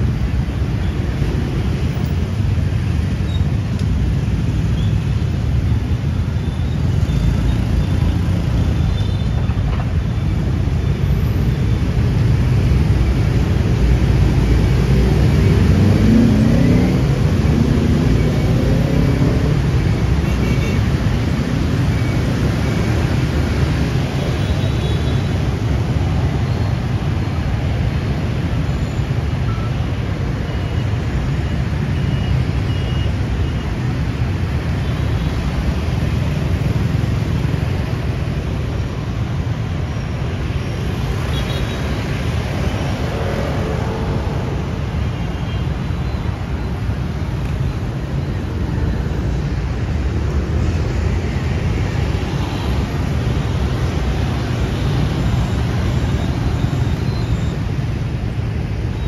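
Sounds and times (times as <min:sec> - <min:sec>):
city street traffic: 0:00.0 - 0:59.0.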